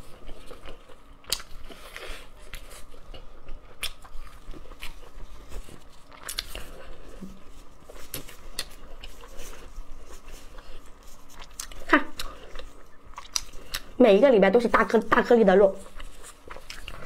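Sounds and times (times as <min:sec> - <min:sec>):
chewing and wet mouth sounds: 0:00.0 - 0:17.0.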